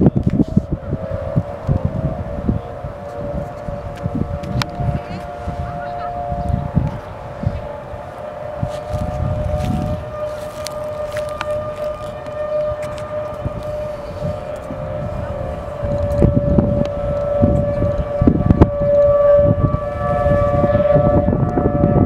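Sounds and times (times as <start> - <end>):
warning siren steady tone: 0.0 - 22.0
wind buffeting microphone: 0.0 - 22.0.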